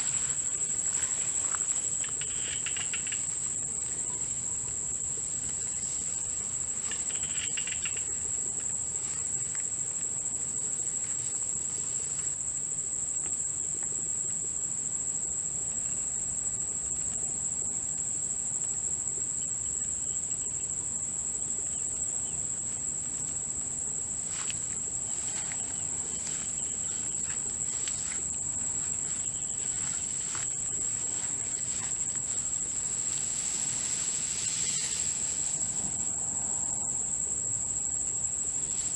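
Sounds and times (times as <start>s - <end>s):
faint ticks and rustles: 0.0s - 36.8s, 37.8s - 38.9s
crickets trilling: 0.0s - 38.9s.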